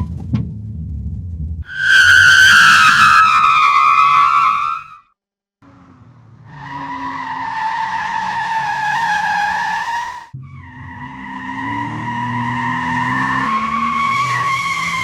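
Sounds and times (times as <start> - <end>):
car tyres screeching: 1.7 - 5.0, 5.7 - 15.0.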